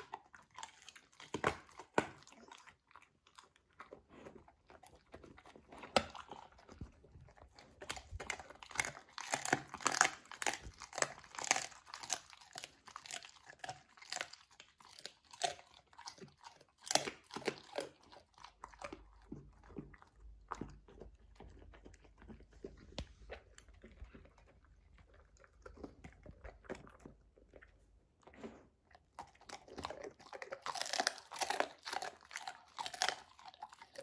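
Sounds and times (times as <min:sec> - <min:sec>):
dog crunching a treat: 0:00.0 - 0:34.0.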